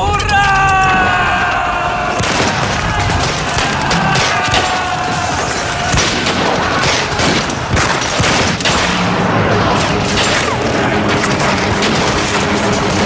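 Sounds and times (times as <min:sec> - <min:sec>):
heavy booms: 0:00.7 - 0:13.0
rapid rifle and machine-gun shots: 0:02.1 - 0:13.0.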